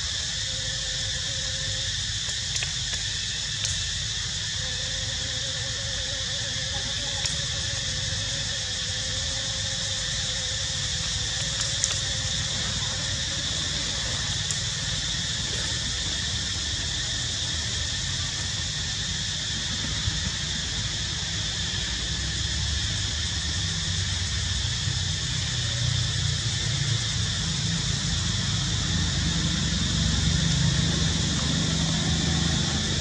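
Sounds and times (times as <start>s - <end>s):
constant high-pitched hum: 0.0s - 33.0s.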